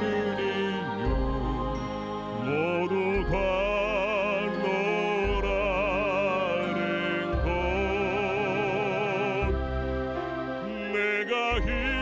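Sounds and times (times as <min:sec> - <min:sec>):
man singing operatically: 0:00.0 - 0:01.7, 0:02.4 - 0:09.6, 0:10.6 - 0:12.0
recorded instrumental accompaniment: 0:00.0 - 0:12.0.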